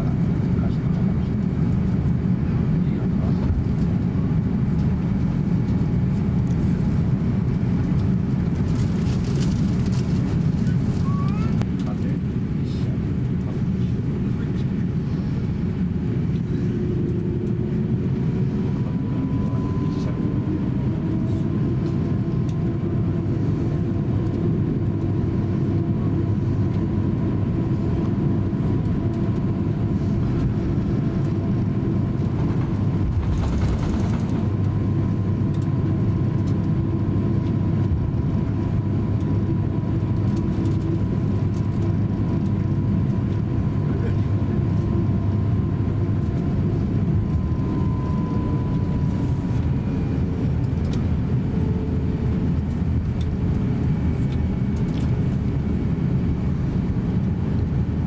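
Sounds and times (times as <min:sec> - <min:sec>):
faint engine whine: 0:00.0 - 0:58.0
jet engines idling rumble: 0:00.0 - 0:58.0.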